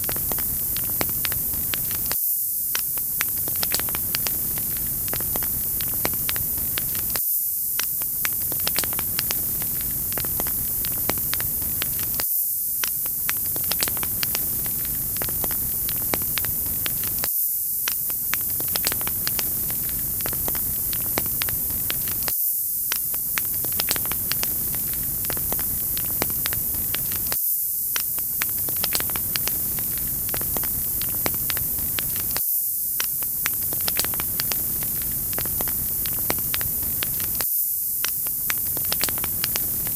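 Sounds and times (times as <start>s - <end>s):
wood fire crackling: 0.0s - 2.2s, 2.8s - 7.2s, 8.0s - 12.2s, 13.0s - 17.3s, 18.1s - 22.3s, 23.0s - 32.4s, 33.0s - 37.4s, 38.0s - 39.9s.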